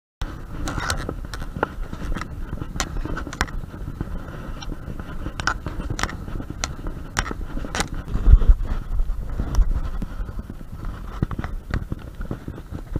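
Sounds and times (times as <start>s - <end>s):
low wind rumble: 0.2s - 12.9s
microphone handling noise: 0.2s - 12.9s
footsteps crunching on gritty stairs: 0.3s - 12.9s.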